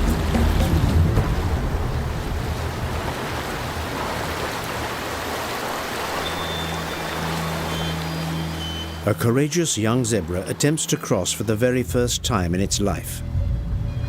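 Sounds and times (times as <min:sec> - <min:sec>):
river water rushing: 0:00.0 - 0:11.5.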